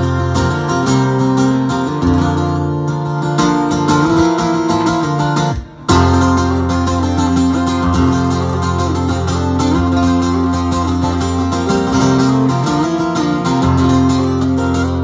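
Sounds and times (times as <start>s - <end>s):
acoustic guitar picking and strumming: 0.0s - 15.0s.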